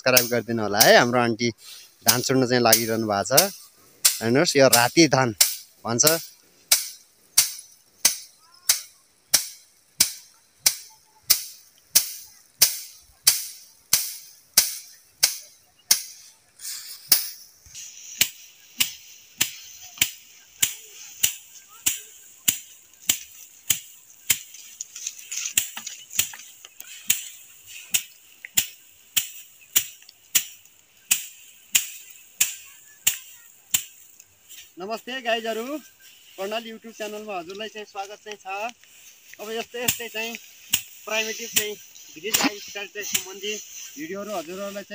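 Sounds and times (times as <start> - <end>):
steady high hiss: 0.0 - 44.9
wooden stick beating rice stalks: 0.0 - 44.9.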